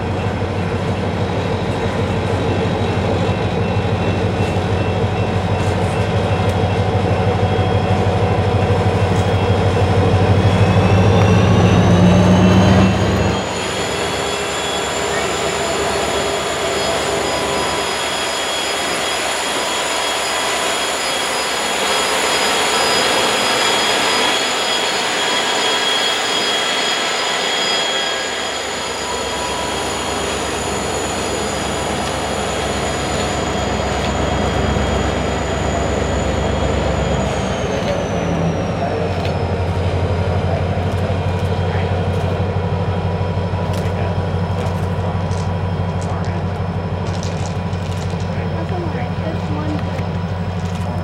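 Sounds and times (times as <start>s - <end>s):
low pulsing engine drone: 0.0s - 51.0s
train rail and wheel noise: 0.0s - 51.0s.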